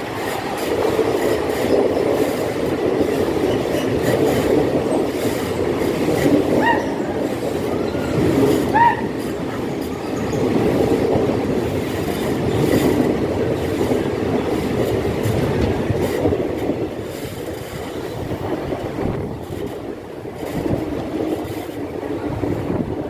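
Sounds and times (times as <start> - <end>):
rail joint clicks: 0.0 - 22.8
train wheels rumbling on track: 0.0 - 23.0.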